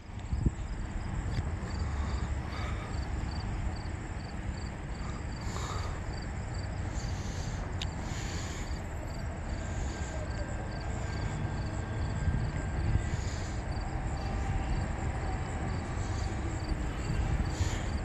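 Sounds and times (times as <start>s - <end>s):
low outdoor rumble: 0.0s - 18.0s
insect chirping: 0.3s - 18.0s.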